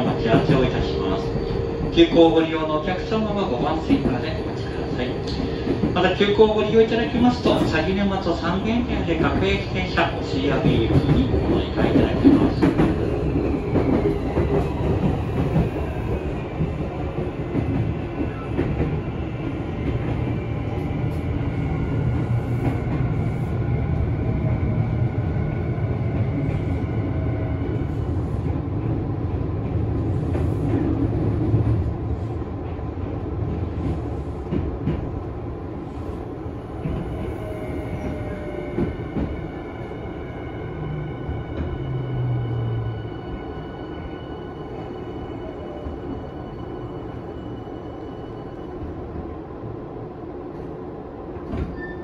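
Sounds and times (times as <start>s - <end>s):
train wheels on rails: 0.0s - 49.3s, 50.4s - 52.0s.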